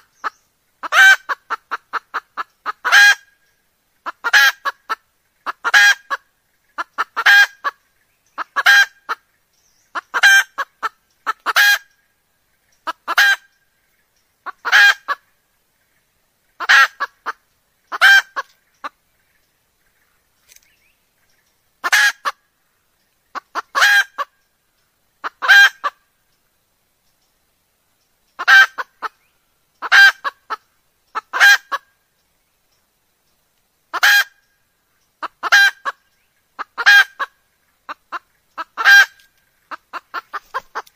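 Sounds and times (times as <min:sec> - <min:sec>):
hen clucking: 0:00.0 - 0:20.0, 0:21.2 - 0:22.5, 0:23.2 - 0:24.5, 0:25.2 - 0:26.1, 0:28.3 - 0:32.0, 0:33.9 - 0:40.9.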